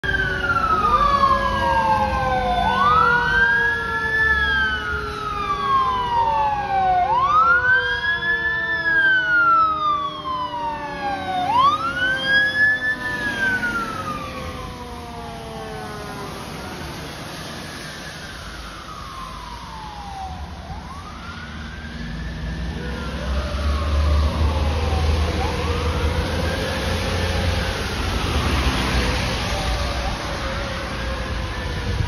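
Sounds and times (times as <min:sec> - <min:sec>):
fire truck siren wailing: 0:00.0 - 0:32.0
slower falling siren tone: 0:00.0 - 0:32.0
trucks rumbling: 0:00.0 - 0:32.0.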